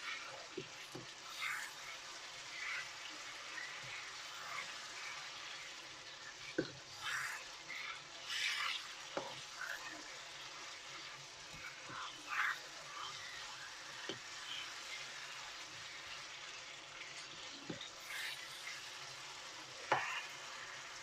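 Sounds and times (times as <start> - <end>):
sauce sizzling in a pan: 0.0 - 21.0.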